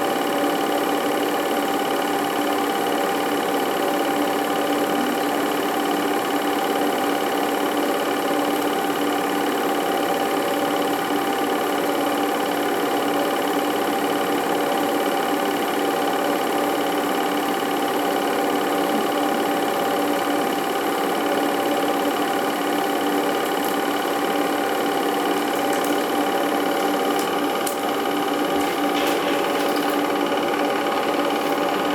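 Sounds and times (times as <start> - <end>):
film projector whirring: 0.0 - 31.9.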